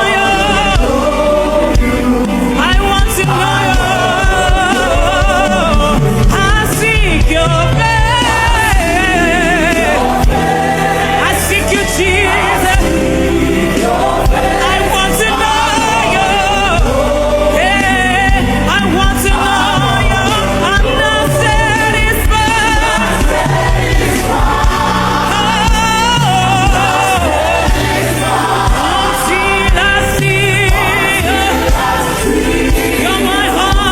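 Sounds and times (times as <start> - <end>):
band with bass and drums: 0.0 - 33.9
choir singing gospel: 0.0 - 33.9.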